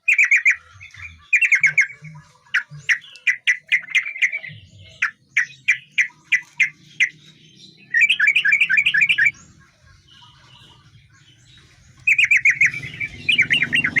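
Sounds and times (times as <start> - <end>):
bird bubbling song runs: 0.0 - 14.0
bird chirping: 0.0 - 14.0.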